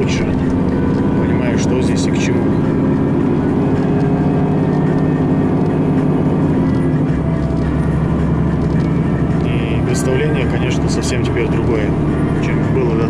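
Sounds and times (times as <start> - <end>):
road noise inside vehicle: 0.0 - 13.0
vehicle engine drone: 0.0 - 13.0.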